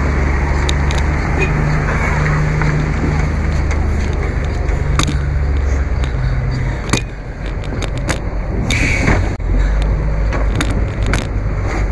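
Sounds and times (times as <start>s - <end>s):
truck engine idling: 0.0s - 11.7s.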